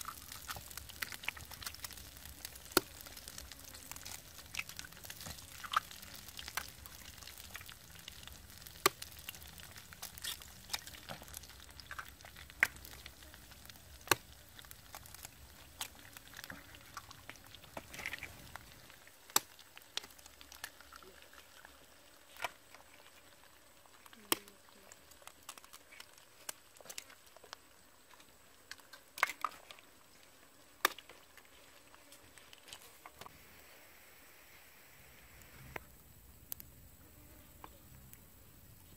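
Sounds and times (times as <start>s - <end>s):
pops and crackles: 0.0s - 33.4s, 35.2s - 36.8s
eggs sizzling: 0.0s - 36.9s.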